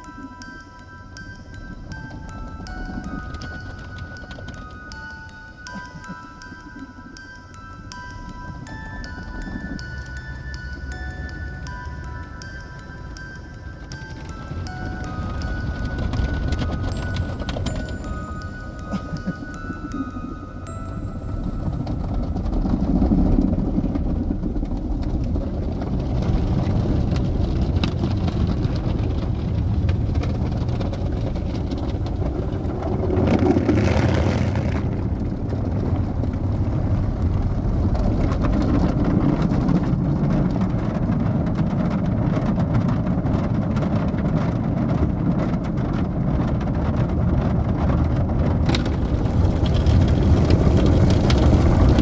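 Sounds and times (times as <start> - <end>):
car wash water spray and machinery: 0.0 - 52.0.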